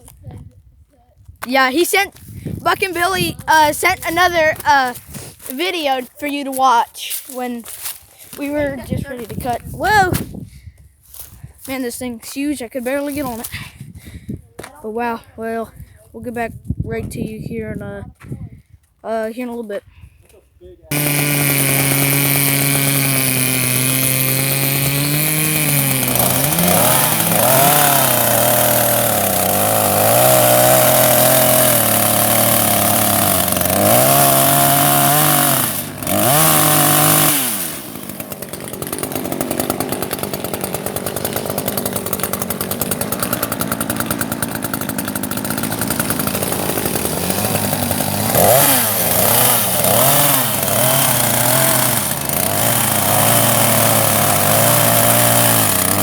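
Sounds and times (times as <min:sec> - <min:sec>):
chainsaw cutting wood: 0:01.4 - 0:10.3, 0:11.6 - 0:13.6, 0:20.9 - 0:56.0.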